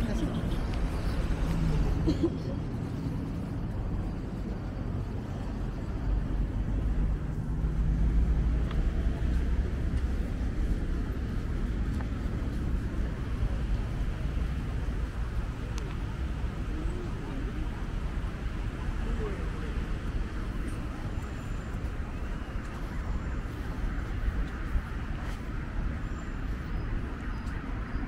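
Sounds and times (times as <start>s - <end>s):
cars passing on road: 0.0s - 28.0s.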